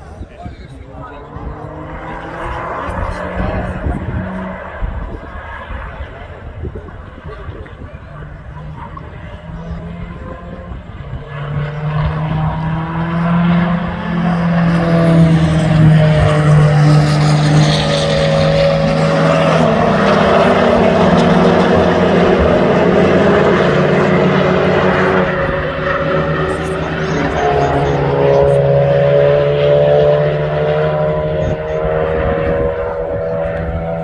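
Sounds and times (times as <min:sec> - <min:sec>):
racing car engines passing: 0:00.0 - 0:34.0.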